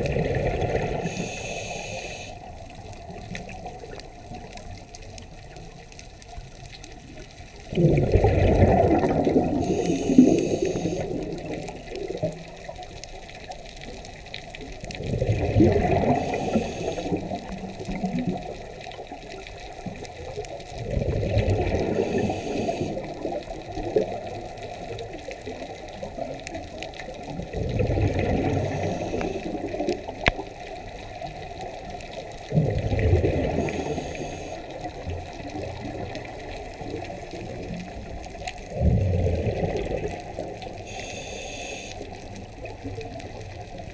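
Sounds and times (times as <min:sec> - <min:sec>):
underwater exhaled bubbles: 0:00.0 - 0:43.9.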